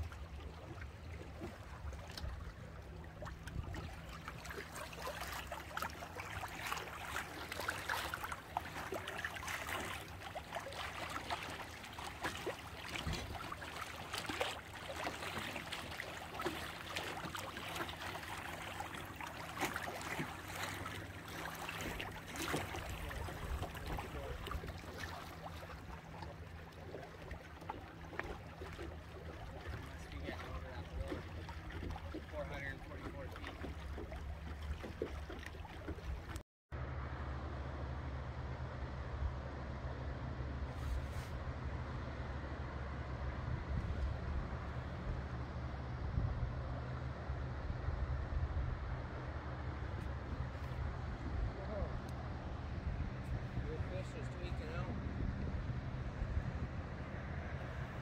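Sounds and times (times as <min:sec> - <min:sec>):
water rushing along boat hull: 0:00.0 - 0:58.0.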